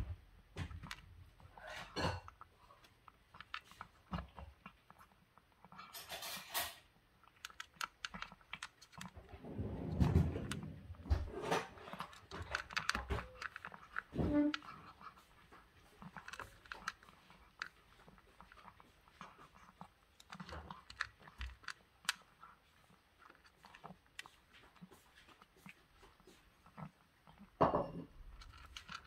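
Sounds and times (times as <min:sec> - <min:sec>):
cat crunching food: 0:00.1 - 0:29.0.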